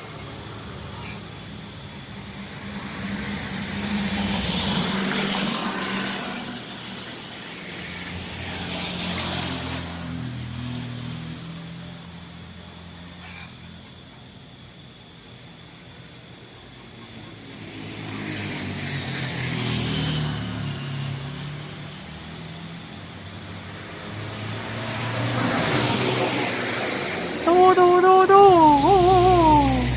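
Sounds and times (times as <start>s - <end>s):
vehicle engine hum: 0.0s - 14.3s, 16.1s - 29.9s
thin steady high tone: 0.0s - 29.9s.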